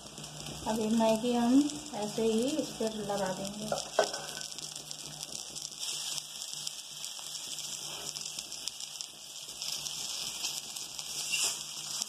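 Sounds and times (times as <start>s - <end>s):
oil sizzling on a griddle: 0.0s - 12.0s.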